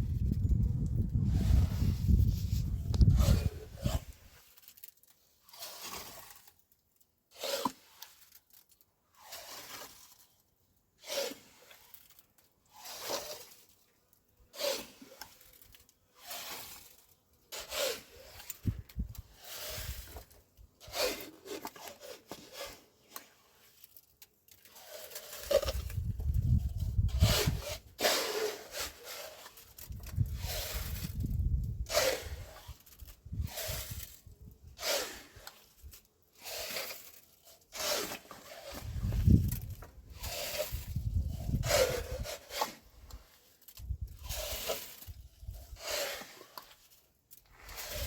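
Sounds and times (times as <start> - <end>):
scraping strokes: 0.1 - 6.7, 7.3 - 10.4, 11.0 - 48.0.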